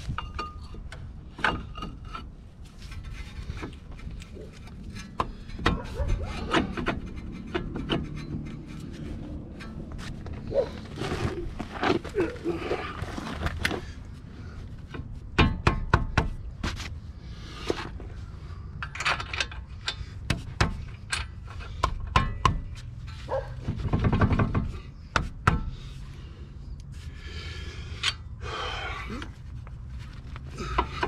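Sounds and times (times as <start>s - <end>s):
metal parts and tools clanking: 0.0s - 16.8s, 17.6s - 26.1s, 27.9s - 28.3s, 29.1s - 31.0s.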